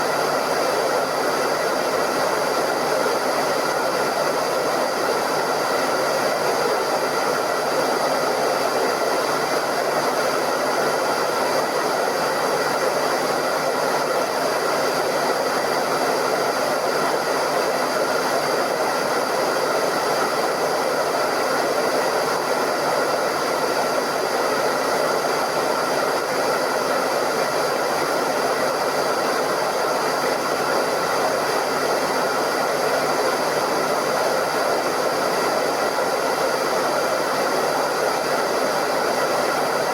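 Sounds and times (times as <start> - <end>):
hairdryer blowing: 0.0 - 39.9.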